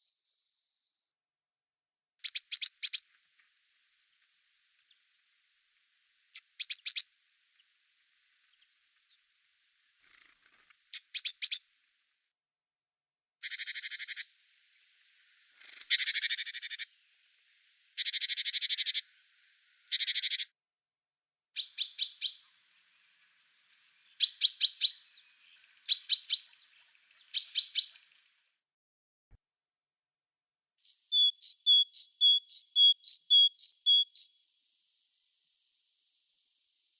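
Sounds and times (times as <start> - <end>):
songbird calling: 0.0 - 1.1, 2.2 - 11.8, 13.4 - 20.5, 21.6 - 28.4, 30.8 - 36.9.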